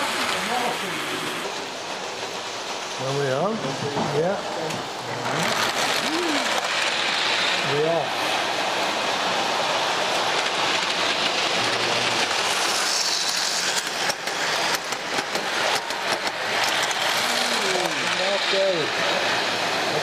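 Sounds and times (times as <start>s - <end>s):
model train wheels rattling on rails: 0.0s - 20.0s.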